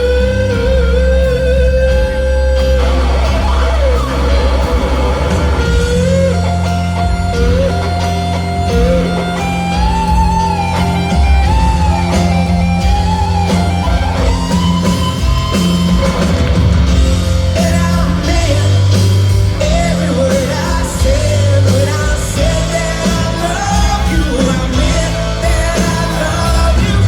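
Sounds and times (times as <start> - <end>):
live rock band playing ballad: 0.0 - 27.0.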